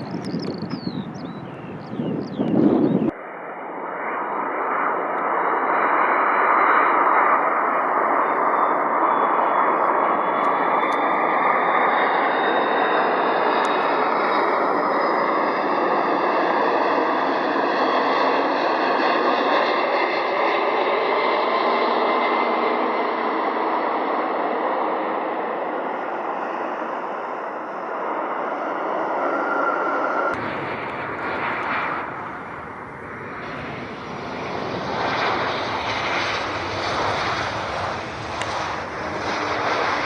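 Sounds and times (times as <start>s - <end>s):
jet engine rush and whine: 0.0s - 40.0s.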